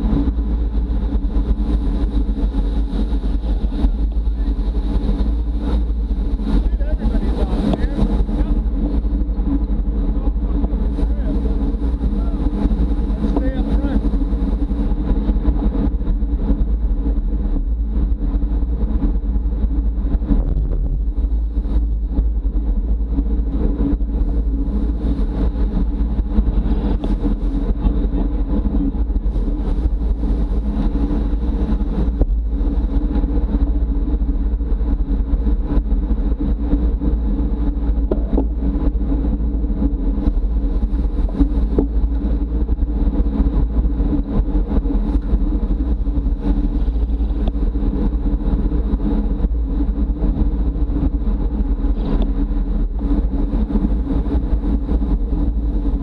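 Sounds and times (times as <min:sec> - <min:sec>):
road rumble: 0:00.0 - 0:56.0
wind noise: 0:00.0 - 0:56.0.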